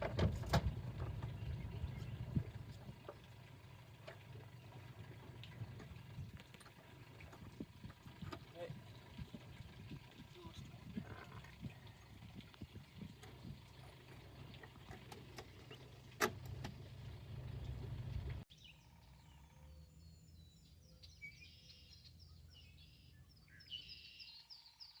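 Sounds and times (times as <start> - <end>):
low steady rumbling: 0.0 - 21.1
birds chirping: 0.4 - 25.0.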